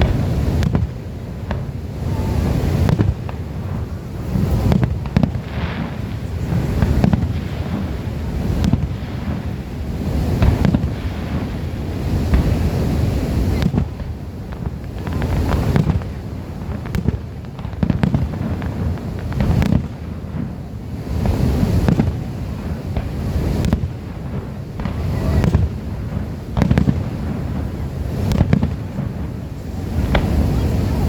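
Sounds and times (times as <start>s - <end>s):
firework shells bursting: 0.0s - 30.7s
firework crackling: 0.0s - 31.0s.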